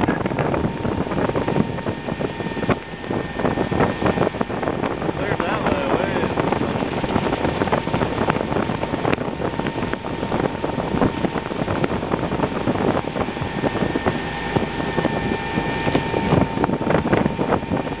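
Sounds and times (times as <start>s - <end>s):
motorboat engine: 0.0s - 18.0s
rushing wake: 0.0s - 18.0s
wind buffeting microphone: 0.0s - 18.0s.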